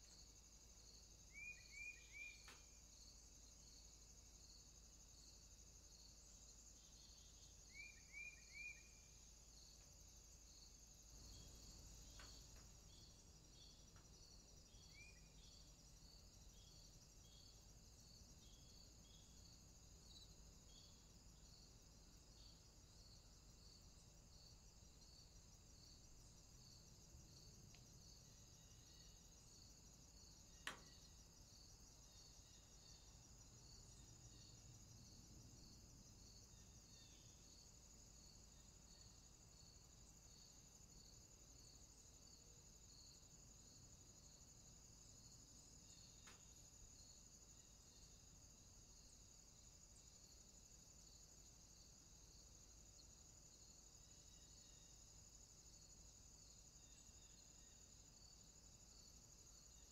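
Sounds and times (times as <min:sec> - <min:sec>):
continuous high insect trill: 0:00.0 - 0:59.9
crickets chirping: 0:00.0 - 0:59.9.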